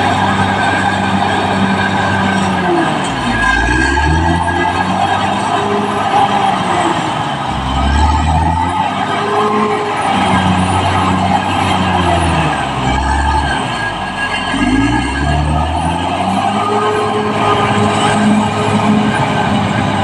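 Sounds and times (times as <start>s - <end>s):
bulldozer diesel engine under load: 0.0s - 20.0s.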